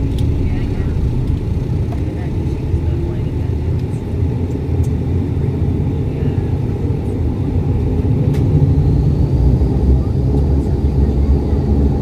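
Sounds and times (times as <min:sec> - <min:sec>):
turboprop engines rumbling: 0:00.0 - 0:12.0.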